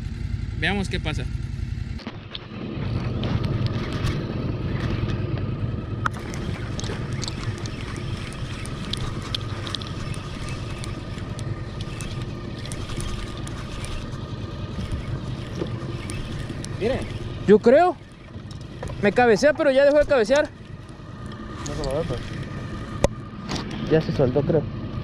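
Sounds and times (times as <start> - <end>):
small boat motor running: 0.0 - 25.0
water noise: 2.0 - 25.0
wind noise: 2.1 - 23.8.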